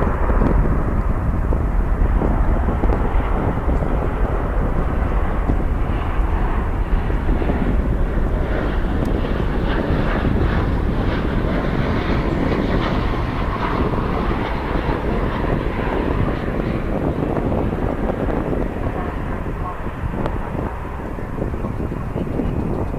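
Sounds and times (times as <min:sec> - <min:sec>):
jet engines rushing: 0:00.0 - 0:22.9
wind buffeting microphone: 0:00.0 - 0:22.9.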